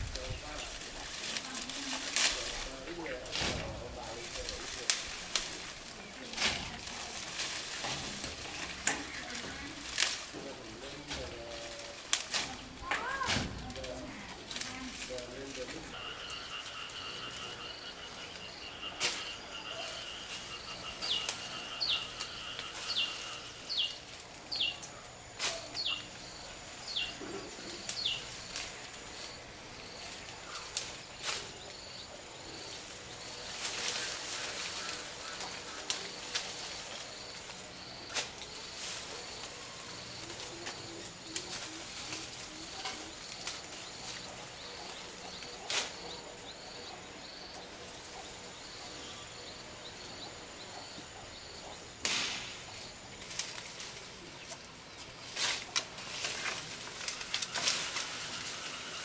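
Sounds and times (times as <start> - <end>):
rustling: 0.0 - 46.8, 51.7 - 59.0.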